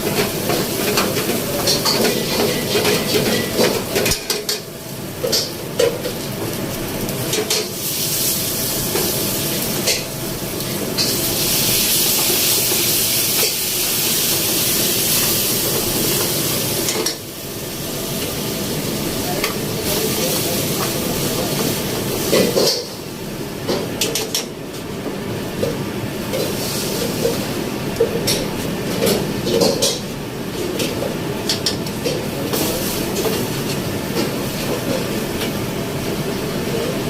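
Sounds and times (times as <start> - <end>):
food sizzling in a pan: 0.0 - 23.8, 26.3 - 27.5, 31.5 - 36.3.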